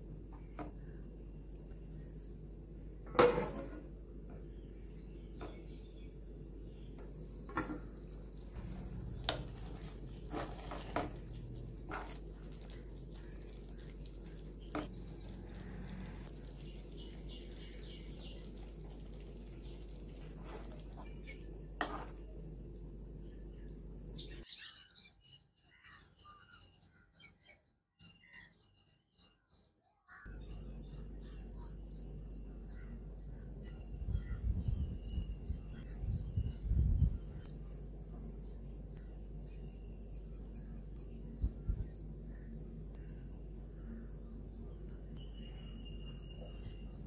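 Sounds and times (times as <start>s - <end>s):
steady low hum: 0.0s - 24.5s, 30.2s - 47.0s.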